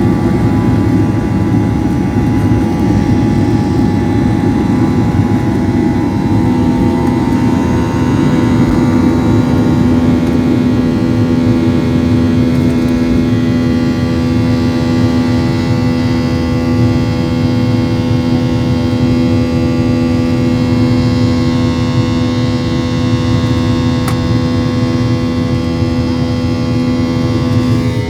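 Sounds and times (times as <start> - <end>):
engine whining tones: 0.0 - 28.0
jet engines roaring: 0.0 - 28.0
low hum: 0.0 - 28.0.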